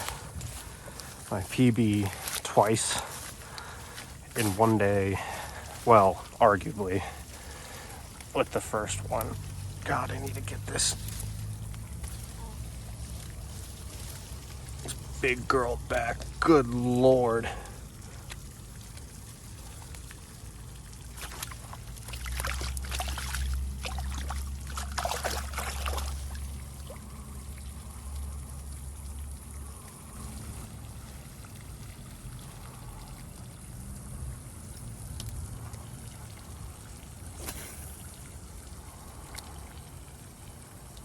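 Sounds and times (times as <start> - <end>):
water splashing and trickling: 0.0 - 41.0.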